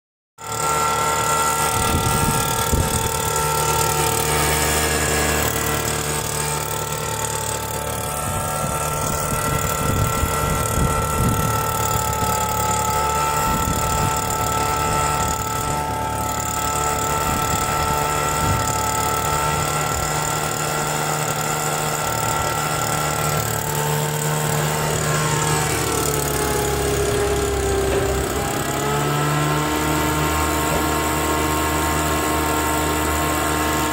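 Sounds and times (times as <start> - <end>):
leaf vacuum blower running: 0.4 - 33.9.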